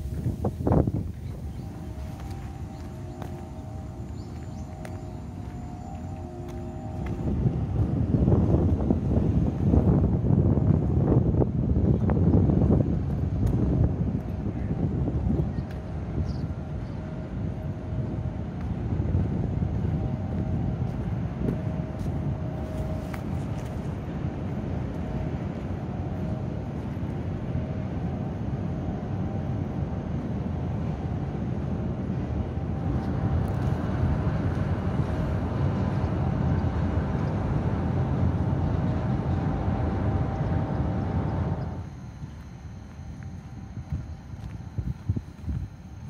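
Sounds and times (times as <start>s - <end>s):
faint machinery hum: 0.0s - 46.0s
wind buffeting microphone: 0.0s - 46.0s.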